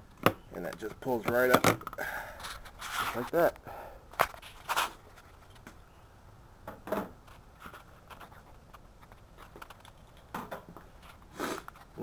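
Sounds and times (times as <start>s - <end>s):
scraping and handling noises: 0.6s - 5.8s, 6.9s - 12.0s.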